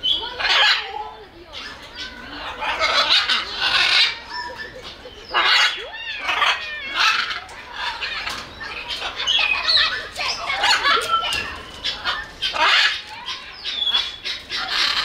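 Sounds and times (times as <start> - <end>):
parrot squawking: 0.0 - 15.0.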